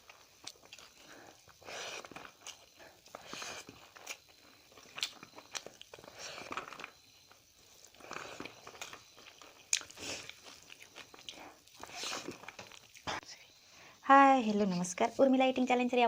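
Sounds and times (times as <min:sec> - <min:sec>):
person chewing crunchy food: 0:00.0 - 0:13.2.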